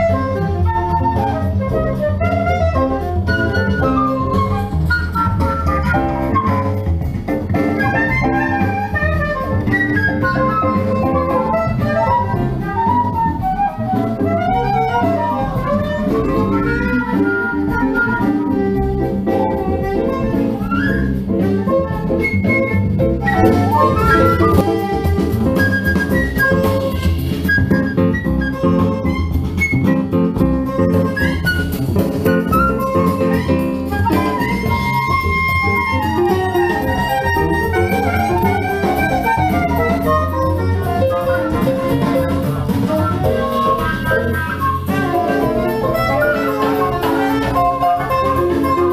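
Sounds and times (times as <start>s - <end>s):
held melody line: 0.0s - 48.9s
instrumental music over loudspeakers: 0.0s - 48.9s.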